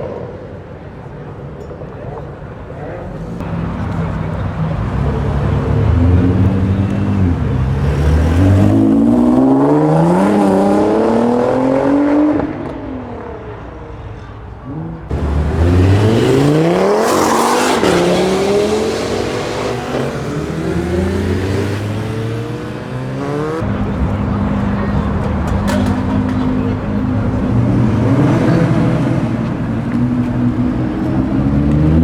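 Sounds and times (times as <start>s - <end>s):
cars accelerating hard: 2.1s - 32.0s.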